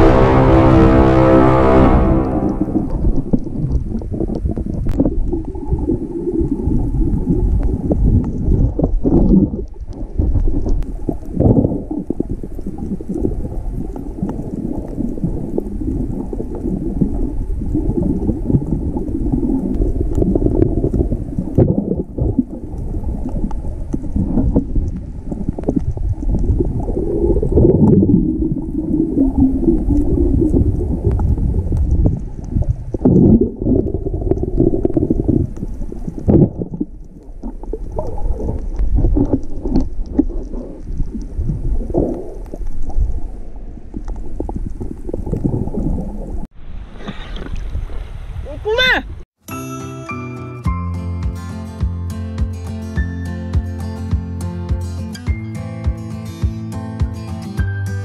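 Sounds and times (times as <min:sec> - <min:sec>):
underwater water rumbling: 0:00.0 - 0:49.3.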